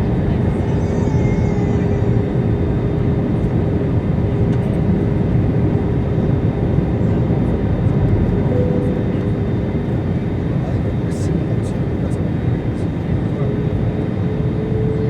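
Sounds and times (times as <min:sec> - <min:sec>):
airflow and jet engine rumble: 0:00.0 - 0:15.0.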